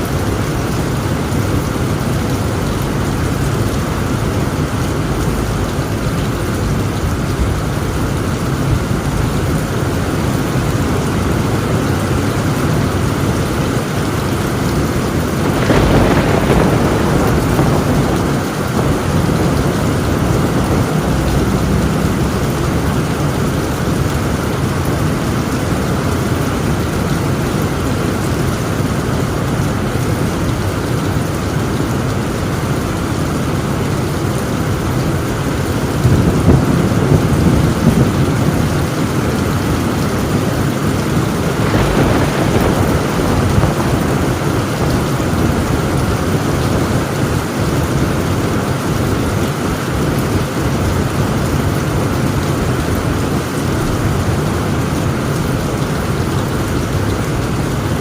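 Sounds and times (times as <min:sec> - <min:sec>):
heavy rain on a tin roof: 0:00.0 - 0:58.0
thunder rumbling: 0:00.0 - 0:58.0.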